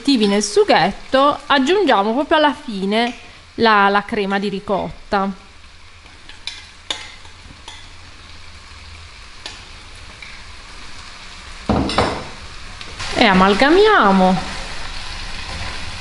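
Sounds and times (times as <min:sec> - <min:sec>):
pasta sizzling in frying pan: 0:00.0 - 0:16.0.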